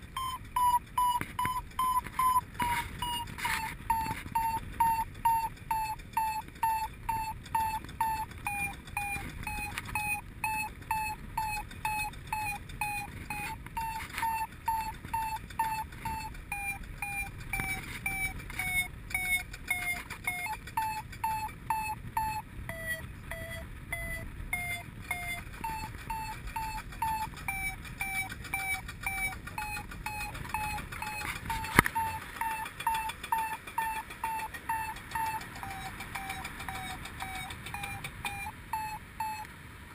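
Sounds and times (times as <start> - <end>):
variometer beeping: 0.0 - 39.7.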